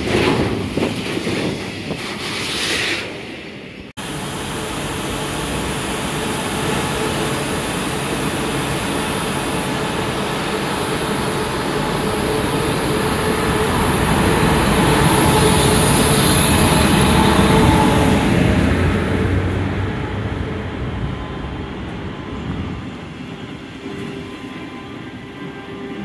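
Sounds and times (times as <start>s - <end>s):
electric train hum and rumble: 0.0s - 26.0s.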